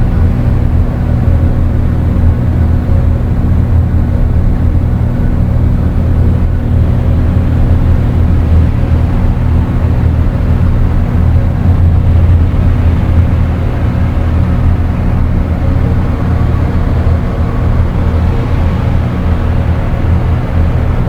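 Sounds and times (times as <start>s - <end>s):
dark ambient drone music: 0.0s - 21.0s.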